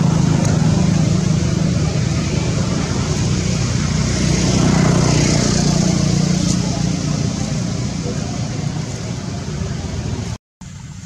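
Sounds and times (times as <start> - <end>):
loud background rumble: 0.0 - 11.0.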